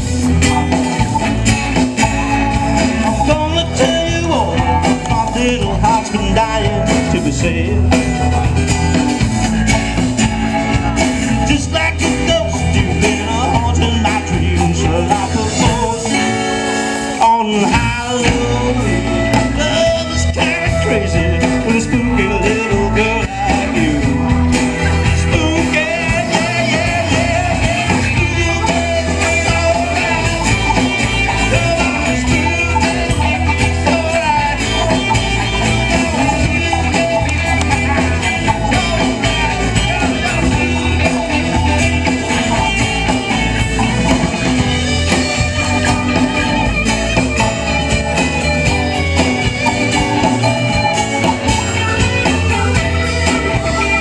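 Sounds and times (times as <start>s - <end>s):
acoustic guitar: 0.0s - 54.0s
bass guitar: 0.0s - 54.0s
electric guitar: 0.0s - 54.0s.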